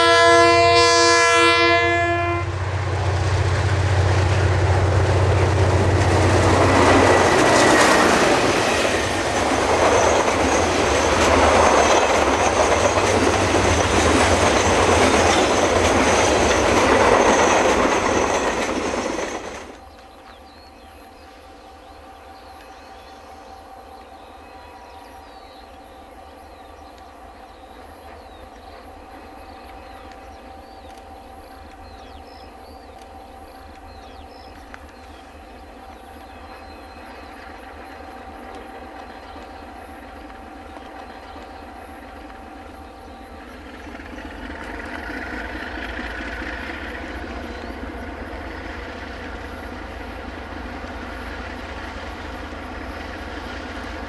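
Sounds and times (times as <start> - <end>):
diesel locomotives hauling train: 0.0 - 54.0.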